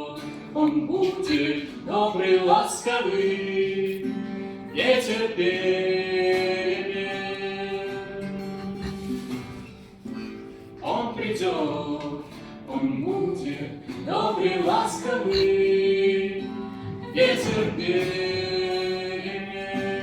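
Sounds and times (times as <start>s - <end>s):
person singing: 0.0s - 20.0s.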